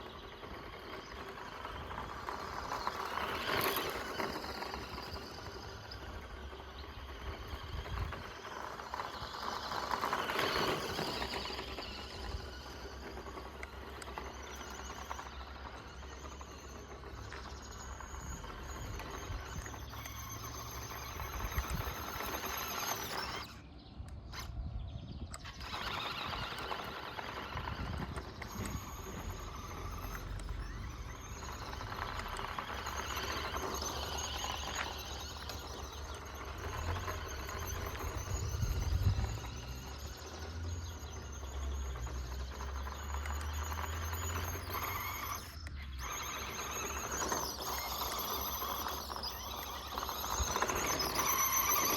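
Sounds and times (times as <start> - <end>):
toy car motor whining: 0.0 - 51.9.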